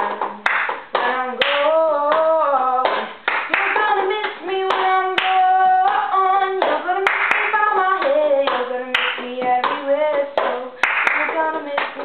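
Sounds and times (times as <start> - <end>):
hand claps: 0.0 - 12.0.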